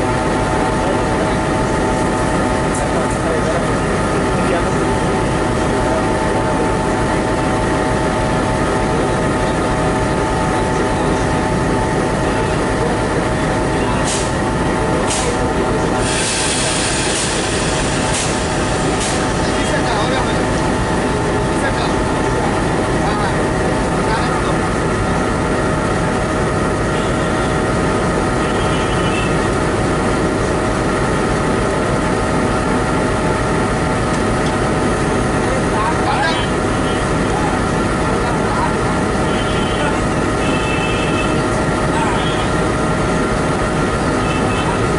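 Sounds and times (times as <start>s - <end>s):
locomotive engine drone: 0.0s - 44.9s.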